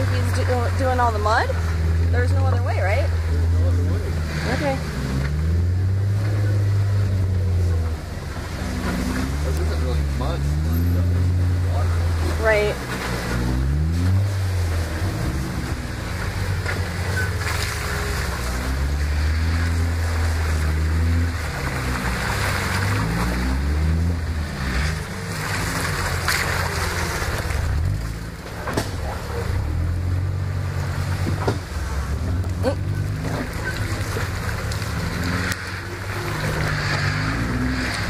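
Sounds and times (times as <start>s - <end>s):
car engine running at low revs: 0.0s - 38.0s
muddy water sloshing and splashing: 0.0s - 38.0s.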